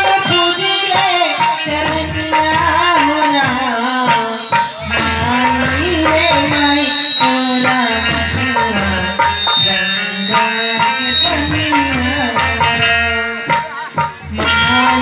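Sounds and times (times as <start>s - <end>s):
harmonium melody: 0.0s - 15.0s.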